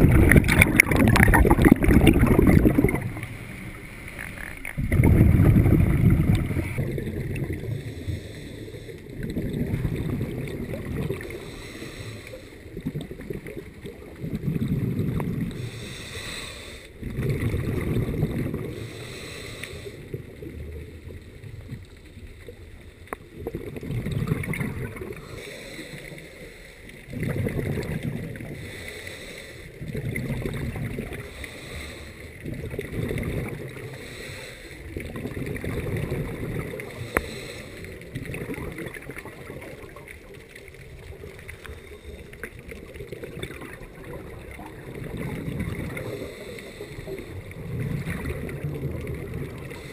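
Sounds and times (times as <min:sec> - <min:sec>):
underwater exhaled bubbles: 0:00.0 - 0:49.9.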